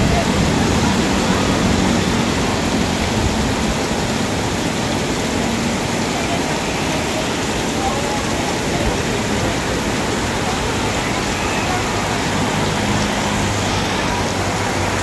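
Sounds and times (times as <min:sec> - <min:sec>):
heavy rain on pavement: 0:00.0 - 0:15.0
water pouring off steps: 0:00.0 - 0:15.0.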